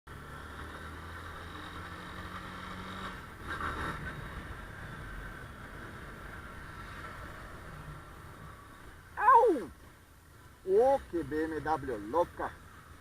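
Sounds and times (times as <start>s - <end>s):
street traffic: 0.1s - 13.0s.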